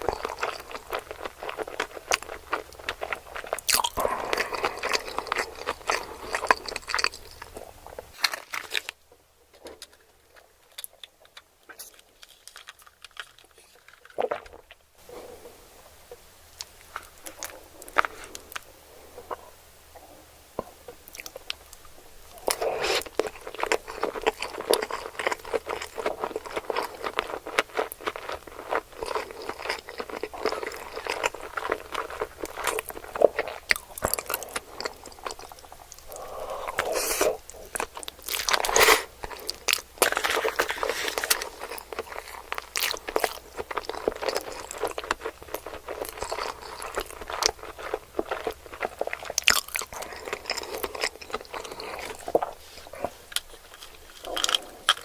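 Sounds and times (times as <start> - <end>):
crunchy chewing: 0.0 - 9.0, 9.6 - 15.4, 16.6 - 55.0.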